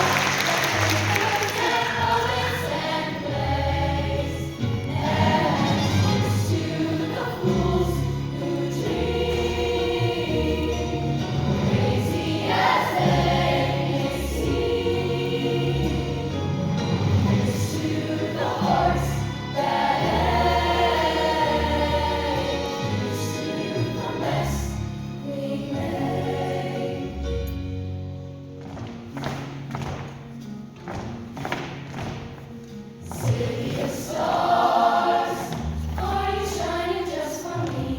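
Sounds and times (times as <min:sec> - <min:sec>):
choir singing: 0:00.0 - 0:27.6, 0:33.2 - 0:37.9.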